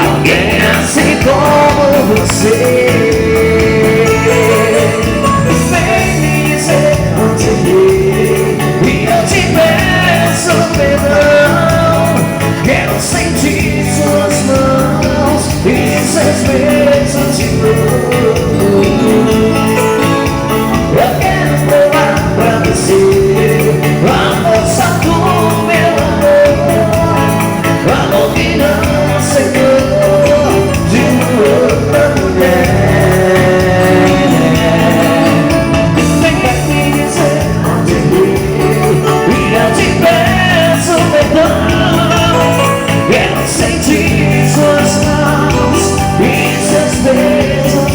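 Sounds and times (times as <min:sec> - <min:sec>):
live band playing dance song: 0:00.0 - 0:47.9.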